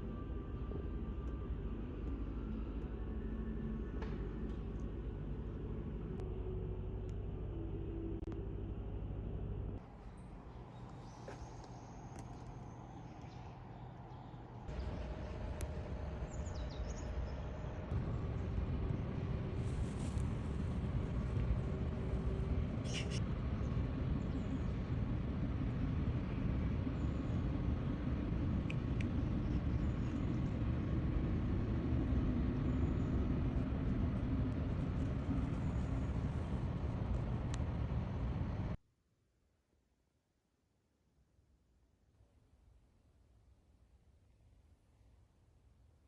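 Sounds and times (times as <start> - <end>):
low traffic rumble: 0.0 - 38.8.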